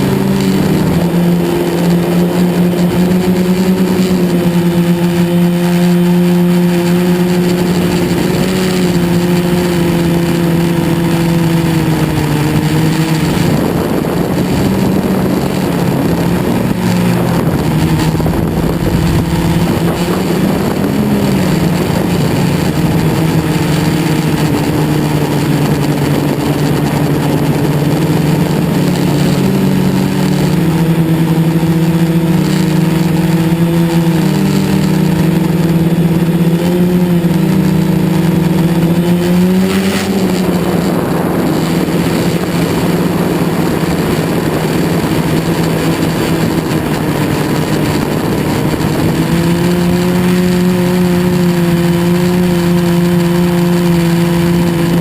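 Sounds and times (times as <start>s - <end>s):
quadcopter propellers humming: 0.0s - 55.0s.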